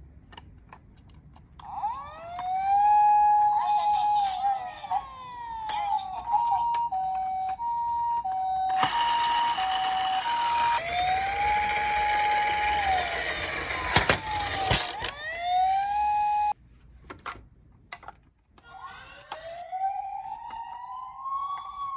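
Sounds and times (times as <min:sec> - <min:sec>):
two-tone ambulance siren: 0:01.6 - 0:16.6, 0:19.2 - 0:21.9
wailing siren: 0:01.6 - 0:16.6, 0:19.2 - 0:21.9.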